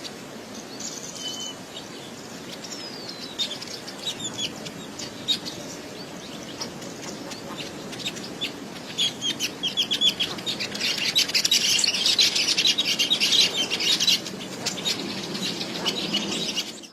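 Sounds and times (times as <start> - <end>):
songbird singing high chirps: 0.0 - 16.9.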